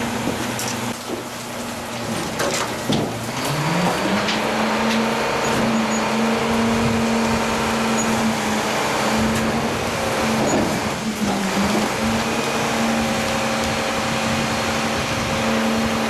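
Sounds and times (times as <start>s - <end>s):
truck engine revving: 1.7s - 16.0s.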